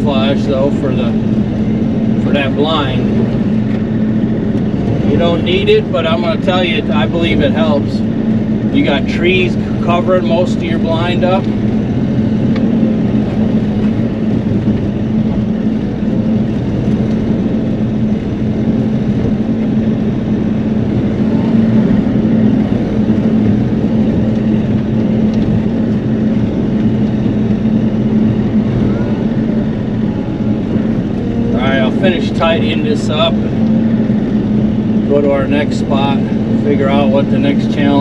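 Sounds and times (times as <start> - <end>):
diesel engine humming: 0.0 - 38.0.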